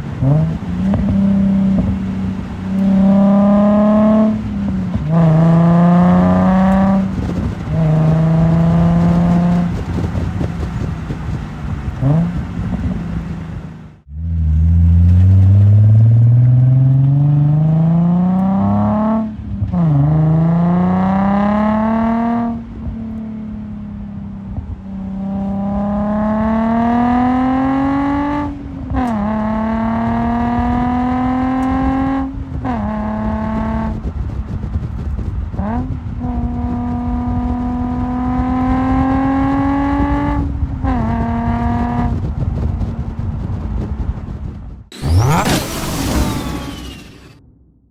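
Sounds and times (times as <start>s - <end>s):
car exhaust accelerating: 0.0s - 47.9s.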